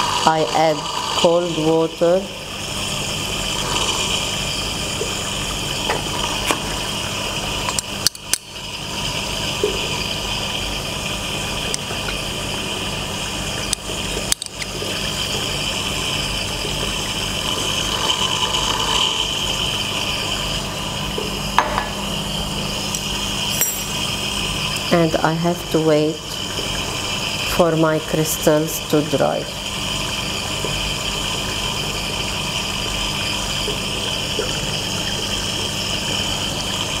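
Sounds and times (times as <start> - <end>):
tap water rushing: 0.0 - 37.0.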